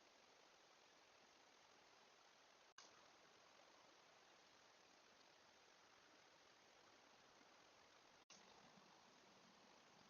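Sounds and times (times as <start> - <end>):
faint microphone hiss: 0.0 - 10.0.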